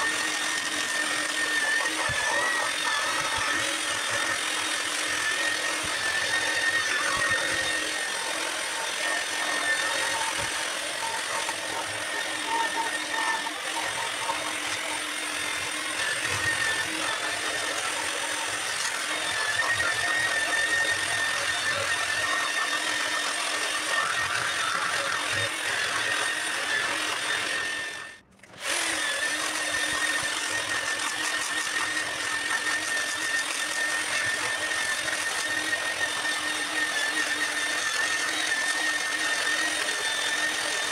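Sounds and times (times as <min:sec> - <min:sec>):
angle grinder sanding wood: 0:00.0 - 0:40.9.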